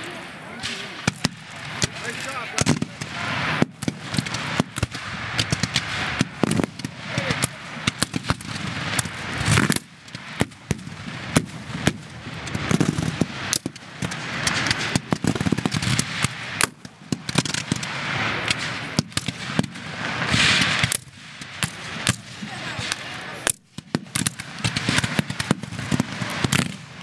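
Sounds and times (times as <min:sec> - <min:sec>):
muskets firing volleys: 0:00.0 - 0:27.0.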